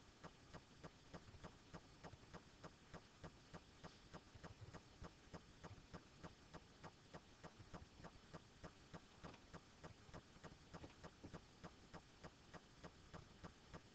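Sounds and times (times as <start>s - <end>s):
faint even ticking: 0.0s - 13.9s.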